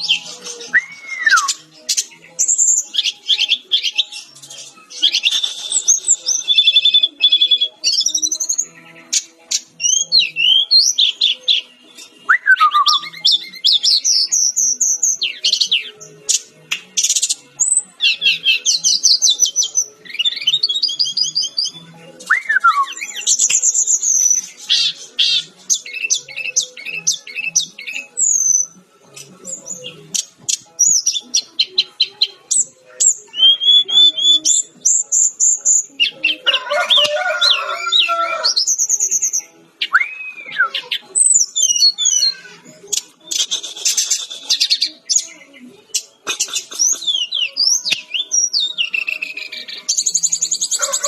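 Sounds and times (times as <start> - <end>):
bird singing whistles and trills: 0.0 - 28.8, 29.4 - 36.4, 37.4 - 51.0.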